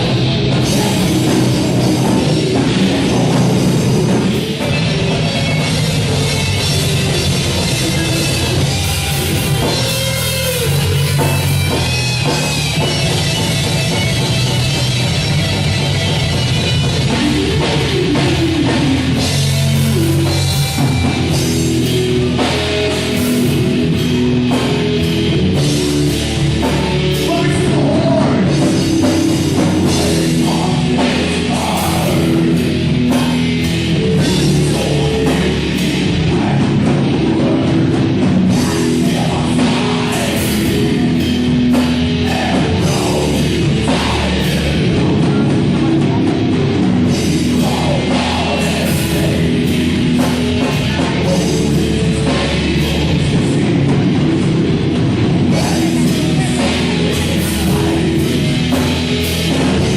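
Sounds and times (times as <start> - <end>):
distorted guitars: 0.0 - 59.9
drum kit with cymbals: 0.0 - 59.9
heavy metal band playing live: 0.0 - 59.9.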